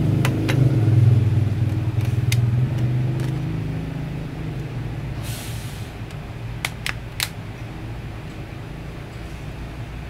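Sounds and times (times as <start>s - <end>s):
vehicle engine drone: 0.0s - 10.0s.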